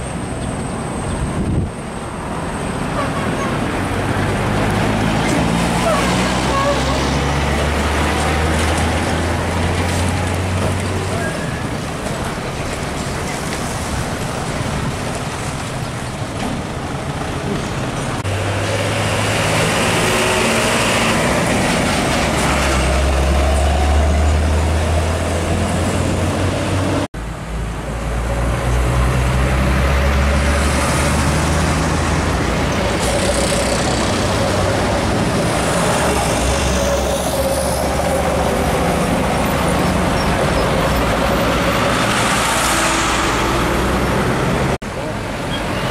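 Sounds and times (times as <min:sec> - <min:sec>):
diesel truck engine drone: 0:00.0 - 0:45.9
tyre and road noise: 0:00.0 - 0:45.9.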